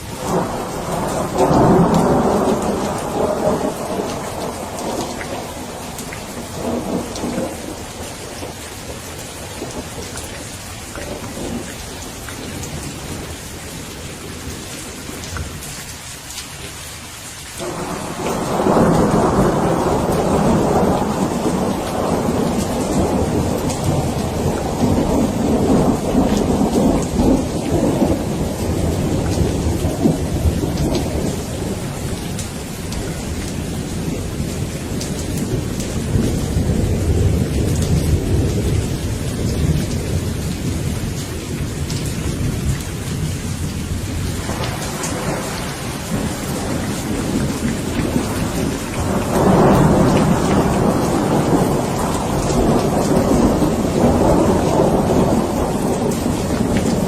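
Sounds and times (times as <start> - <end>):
rolling thunder: 0.0 - 13.3, 17.6 - 57.0
steady rain: 0.0 - 57.0.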